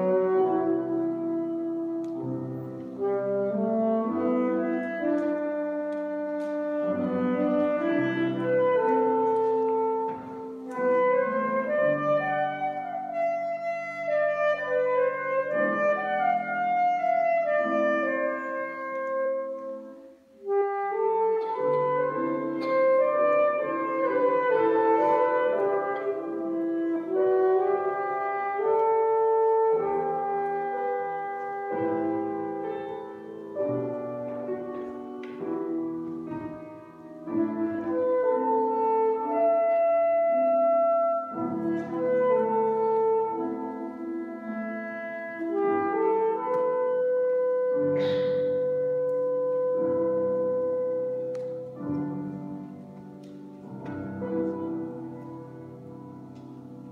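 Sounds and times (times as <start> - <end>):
alto saxophone melody: 0.0 - 56.9.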